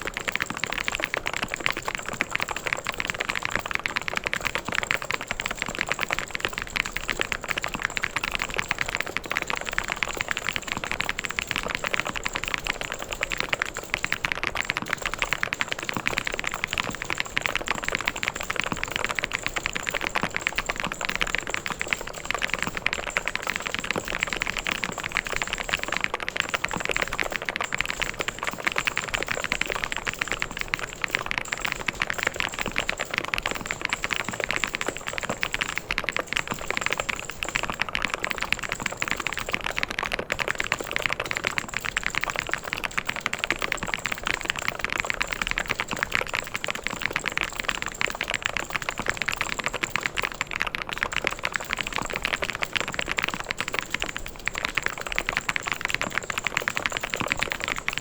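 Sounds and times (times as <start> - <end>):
fast typing on mechanical keyboard: 0.0 - 58.0.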